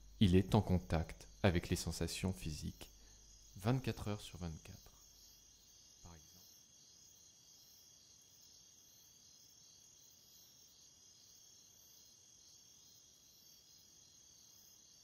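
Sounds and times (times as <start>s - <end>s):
faint crickets chirring: 0.0s - 15.0s.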